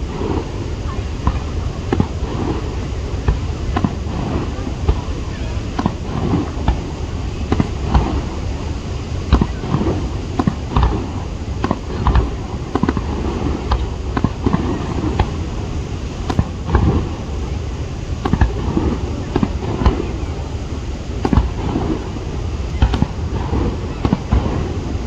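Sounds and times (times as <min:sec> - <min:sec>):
fireworks bangs and crackles: 0:00.0 - 0:25.0
steady rumble: 0:00.0 - 0:25.0.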